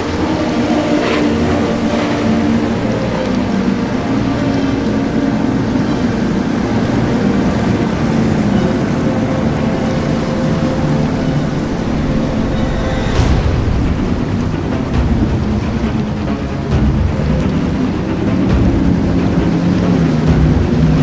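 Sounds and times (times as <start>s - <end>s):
bow wave rushing: 0.0s - 21.0s
yacht engines droning: 0.0s - 21.0s.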